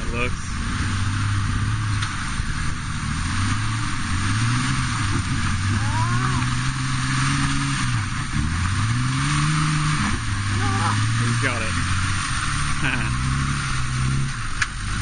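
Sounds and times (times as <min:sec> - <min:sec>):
engine working under load: 0:00.0 - 0:15.0.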